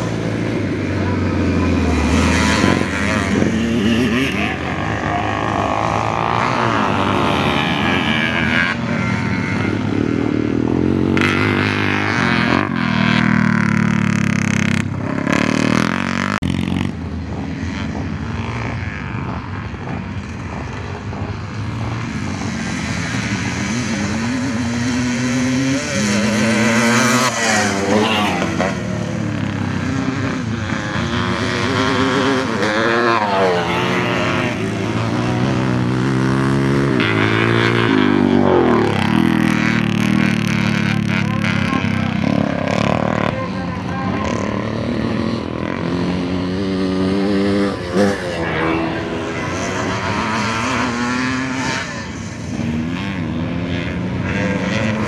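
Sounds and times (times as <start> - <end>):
motocross bikes racing past: 0.0 - 55.0.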